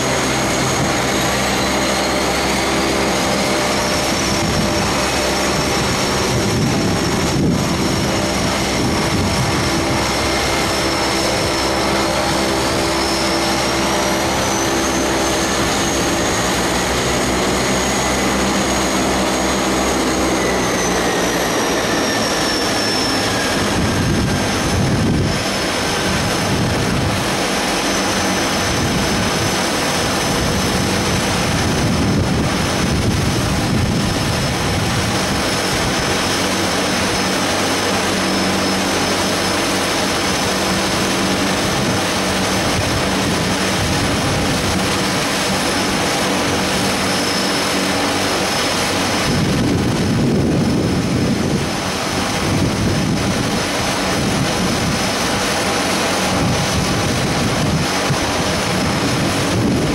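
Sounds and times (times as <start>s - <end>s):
high turbine whine: 0.0s - 59.9s
jet engines rumbling: 0.0s - 59.9s.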